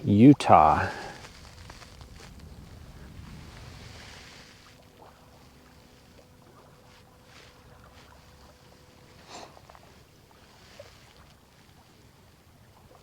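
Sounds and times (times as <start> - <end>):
small waves lapping at shore: 0.2 - 13.0.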